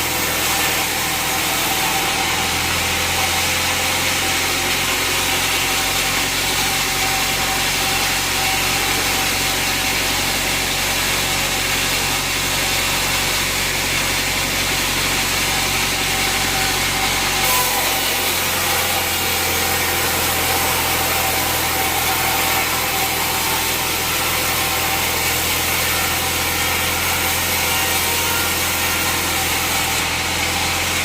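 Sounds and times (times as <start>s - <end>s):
sawmill motor hum: 0.0s - 31.0s.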